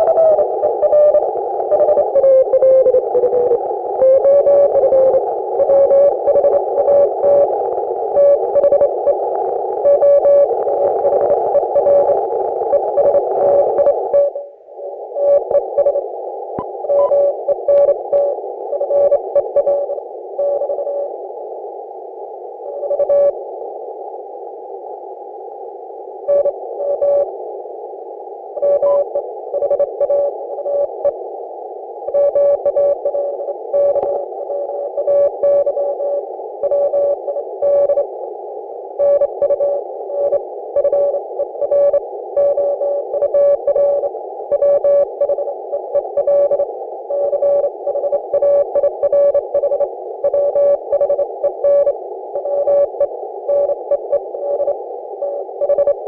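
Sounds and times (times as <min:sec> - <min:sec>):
radio band hiss: 0:00.0 - 0:56.0.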